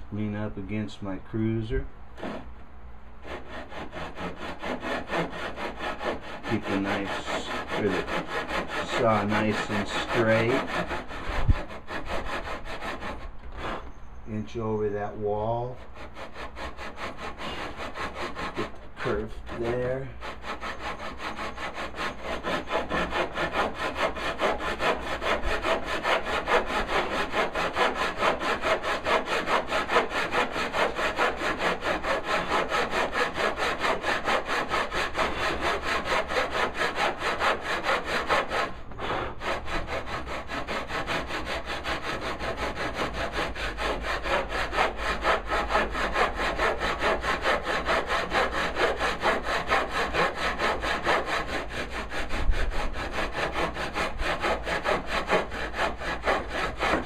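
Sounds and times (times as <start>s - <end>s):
hand saw cutting wood: 1.4s - 2.6s, 3.2s - 57.0s.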